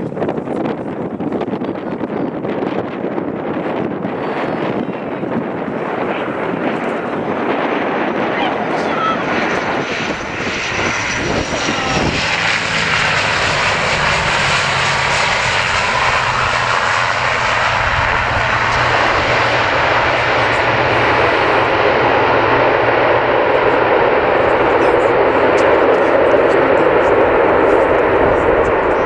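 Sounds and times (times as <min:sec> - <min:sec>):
airliner engines: 0:00.0 - 0:29.0.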